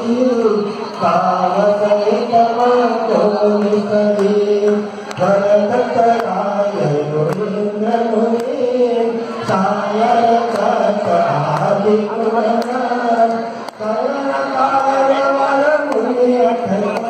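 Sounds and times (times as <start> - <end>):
man chanting into microphone: 0.0 - 17.0.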